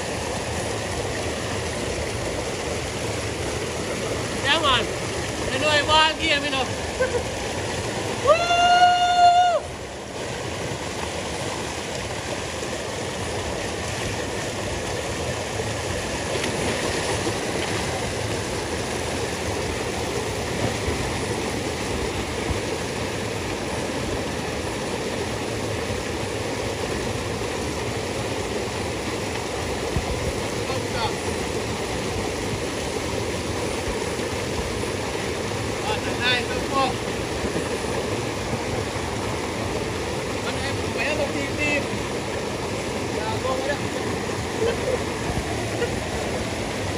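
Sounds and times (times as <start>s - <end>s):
river water rushing over rocks: 0.0s - 46.9s.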